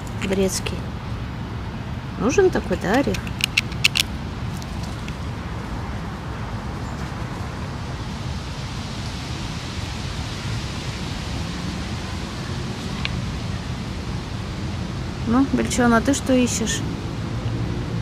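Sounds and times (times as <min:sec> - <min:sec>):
low rumbling noise: 0:00.0 - 0:18.0.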